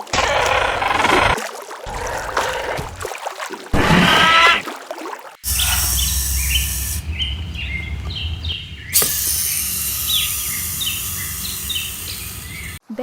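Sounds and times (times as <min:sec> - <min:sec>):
birds chirping: 0:00.0 - 0:03.1, 0:03.8 - 0:04.7, 0:05.4 - 0:12.8.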